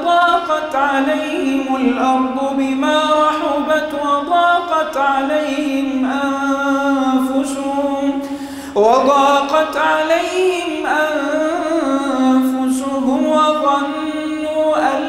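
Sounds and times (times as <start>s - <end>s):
man reciting in melodic chant: 0.0s - 15.0s.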